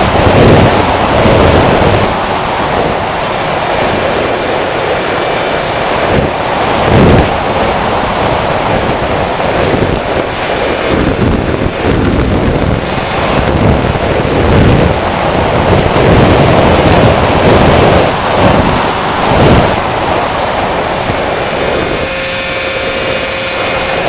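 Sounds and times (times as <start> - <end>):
drone motors and propellers whining: 0.0 - 24.0
wind rumble on microphone: 0.0 - 24.0.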